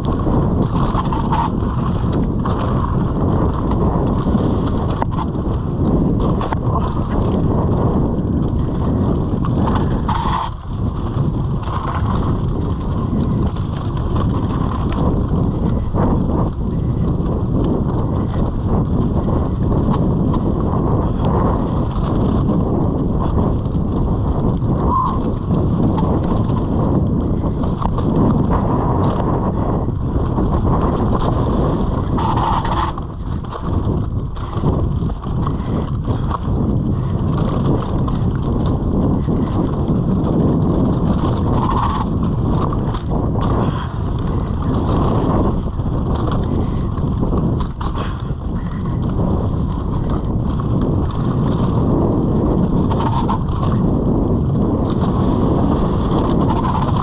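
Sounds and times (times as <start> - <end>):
bike rattling and knocking: 0.0 - 57.0
tyres rolling on gravel: 0.0 - 57.0
wind buffeting microphone: 0.0 - 57.0.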